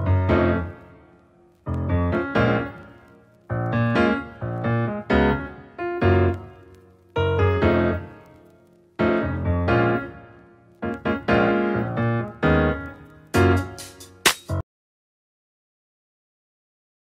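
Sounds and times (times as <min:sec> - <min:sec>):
piano chords: 0:00.0 - 0:14.6.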